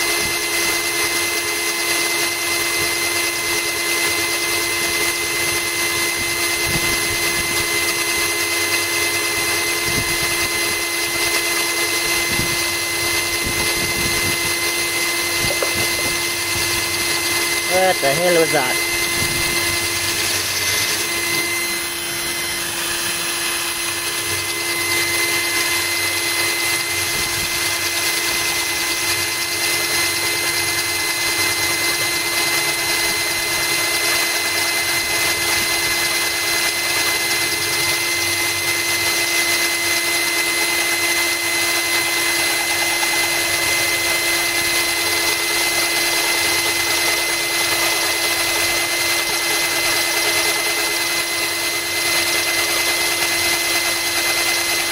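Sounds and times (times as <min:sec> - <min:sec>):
drill grinding into glass: 0:00.0 - 0:54.9.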